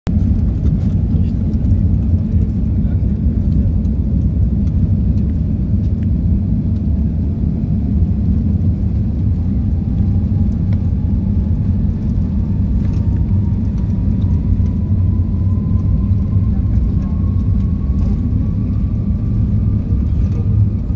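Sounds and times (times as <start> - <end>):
jet engines rumbling on take-off: 0.1 - 20.9.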